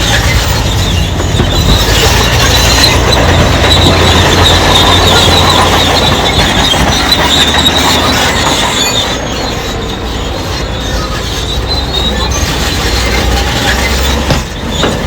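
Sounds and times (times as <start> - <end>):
diesel engine running: 0.0 - 15.0
steel tracks squealing and clanking: 0.0 - 15.0.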